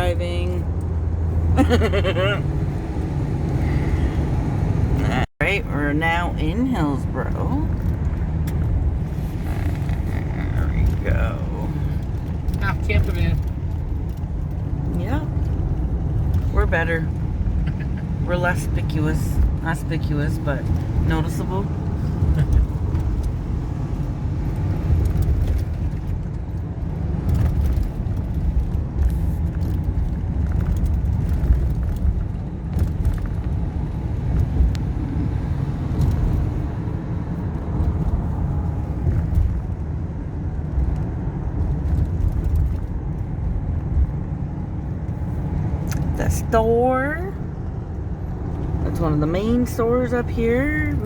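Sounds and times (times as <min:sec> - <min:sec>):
van engine and road noise: 0:00.0 - 0:51.0.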